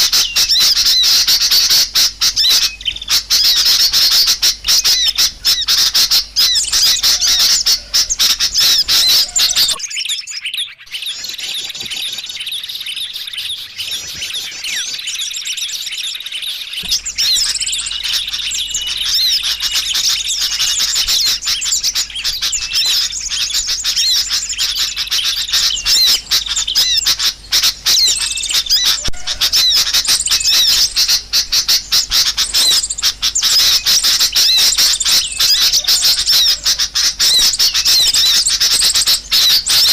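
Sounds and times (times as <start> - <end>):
small birds chirping rapidly: 0.0 - 39.9.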